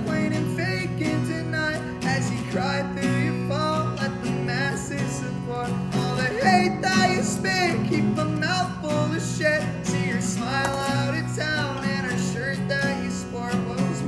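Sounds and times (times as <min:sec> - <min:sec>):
acoustic guitars playing: 0:00.0 - 0:14.0.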